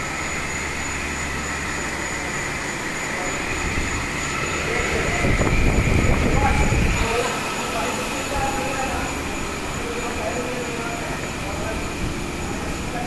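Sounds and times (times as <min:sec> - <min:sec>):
machine-shop machinery running: 0:00.0 - 0:13.0
thin high whine: 0:00.0 - 0:13.0.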